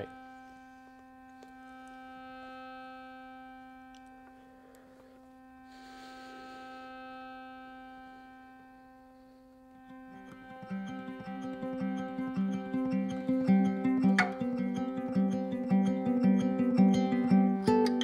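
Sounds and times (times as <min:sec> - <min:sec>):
faint steady hum of tones: 0:00.0 - 0:18.0.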